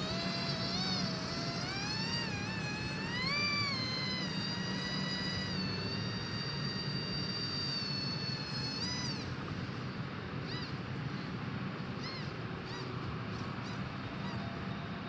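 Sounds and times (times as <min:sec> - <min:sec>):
model boat motor whining: 0:00.0 - 0:15.0.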